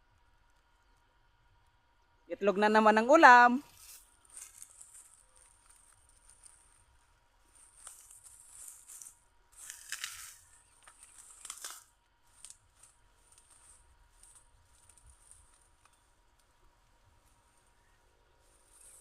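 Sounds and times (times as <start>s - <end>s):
dry leaves rustling and crackling: 3.6s - 19.0s.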